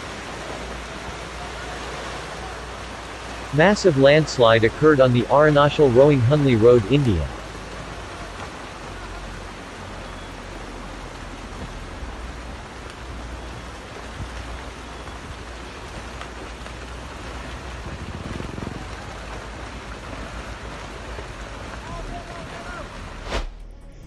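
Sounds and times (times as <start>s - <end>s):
debris rushing down hillside: 0.0s - 23.8s.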